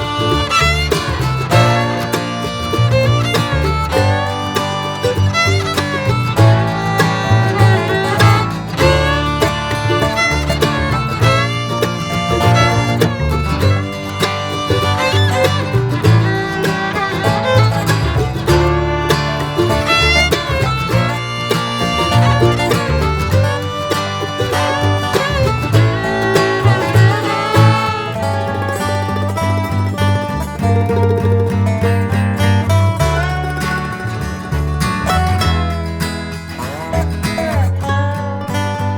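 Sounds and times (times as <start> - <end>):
upbeat bluegrass music: 0.0 - 38.9.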